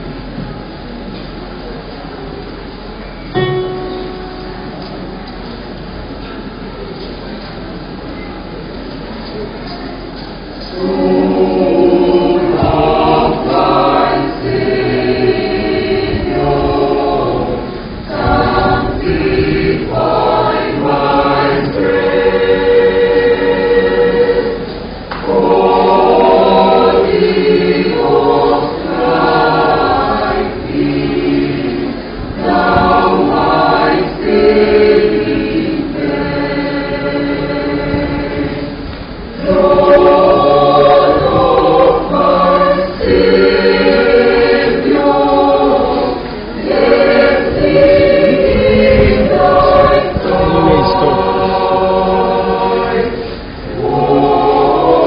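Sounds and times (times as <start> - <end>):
church choir singing: 3.3 - 6.8, 10.4 - 55.0.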